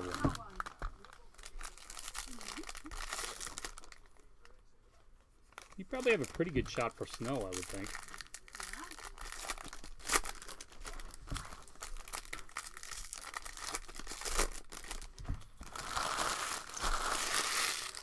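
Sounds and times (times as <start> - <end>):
foil wrapper crinkling and tearing: 0.0 - 4.6, 5.5 - 18.0.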